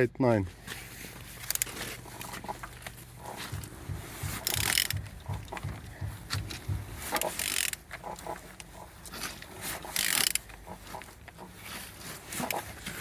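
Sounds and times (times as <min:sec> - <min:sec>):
wrench rasping clicks: 0:01.4 - 0:11.5, 0:12.4 - 0:13.0
engine crankshaft turning over: 0:01.4 - 0:13.0.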